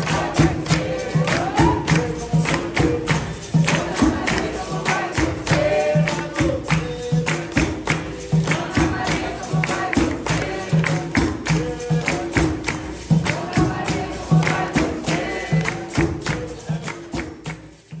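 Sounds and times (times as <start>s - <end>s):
hand drum: 0.0s - 18.0s
hand-clapping: 0.0s - 18.0s
tambourine: 0.0s - 18.0s.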